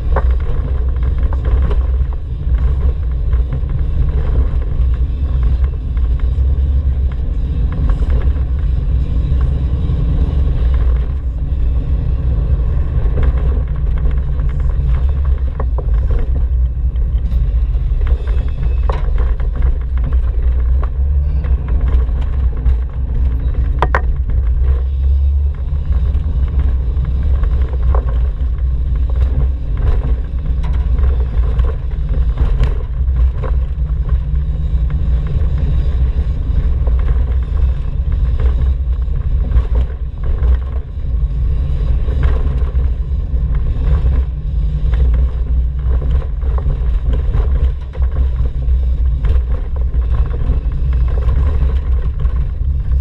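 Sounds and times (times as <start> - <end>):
van engine and road noise: 0.0 - 53.0.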